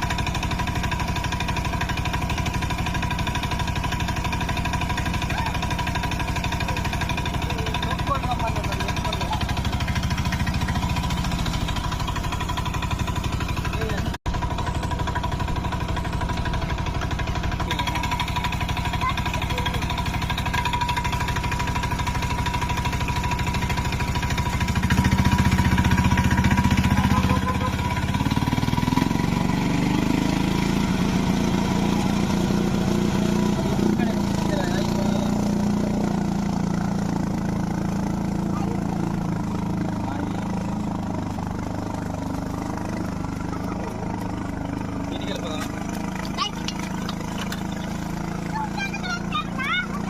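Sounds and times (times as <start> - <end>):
engine running: 0.0 - 50.0.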